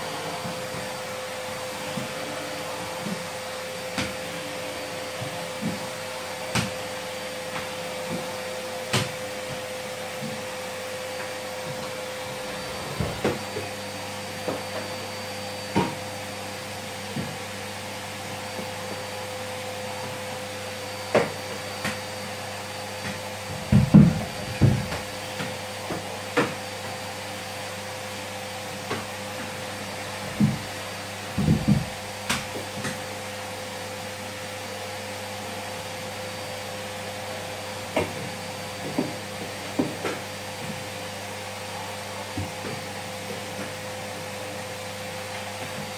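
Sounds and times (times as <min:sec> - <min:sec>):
vacuum cleaner droning: 0:00.0 - 0:45.9.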